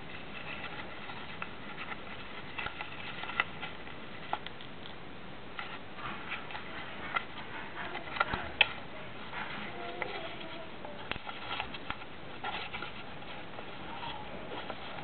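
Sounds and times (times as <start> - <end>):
paper being folded and creased: 0.0 - 4.5, 5.6 - 8.8, 9.4 - 15.0.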